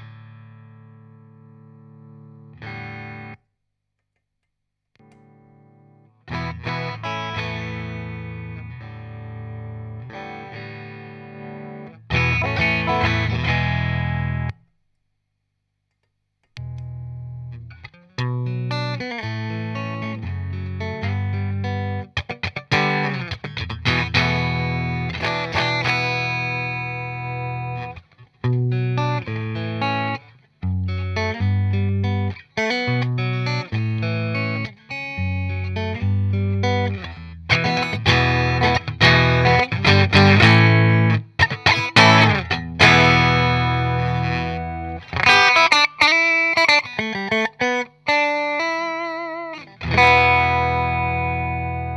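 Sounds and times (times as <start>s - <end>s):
electric guitar strumming chords: 5.0s - 14.5s, 18.2s - 30.2s, 30.8s - 51.9s.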